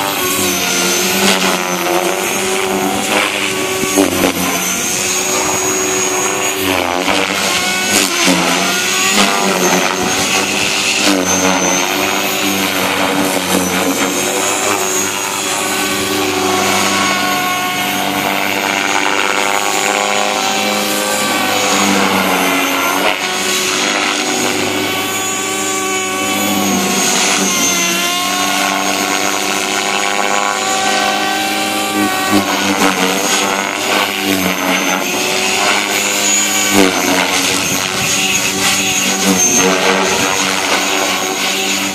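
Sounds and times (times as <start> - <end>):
rc helicopter rotor whirring: 0.0 - 41.9.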